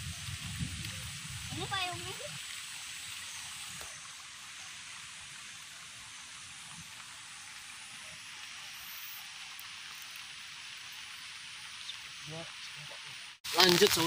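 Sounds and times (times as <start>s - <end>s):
light rain hiss: 0.0s - 14.0s.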